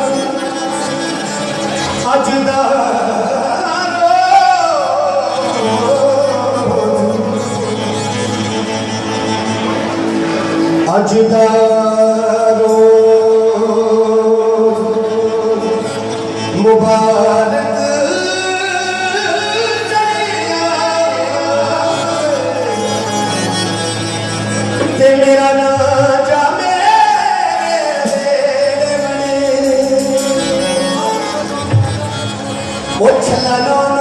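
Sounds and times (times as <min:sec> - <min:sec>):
man singing long held notes: 0:00.0 - 0:09.2, 0:10.8 - 0:34.0
instrumental accompaniment: 0:00.0 - 0:34.0.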